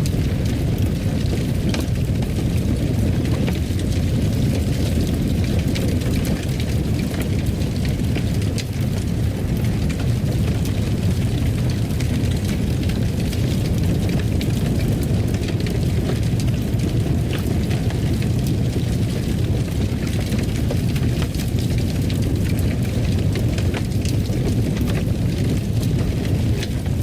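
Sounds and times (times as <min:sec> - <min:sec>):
fire crackling and popping: 0:00.0 - 0:27.0
fireplace fire rumbling: 0:00.0 - 0:27.0.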